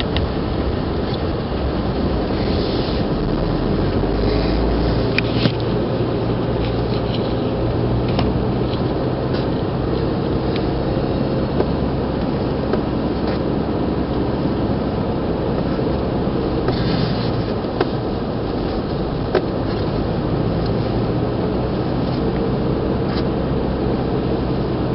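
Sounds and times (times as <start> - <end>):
car engine and tyre rumble: 0.0 - 24.9.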